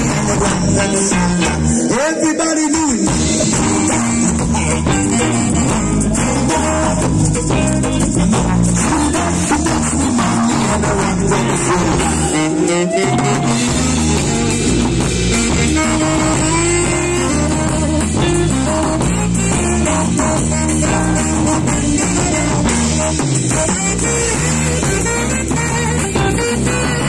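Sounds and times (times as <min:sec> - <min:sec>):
electric guitar: 0:00.0 - 0:27.0
live rock band: 0:00.0 - 0:27.0.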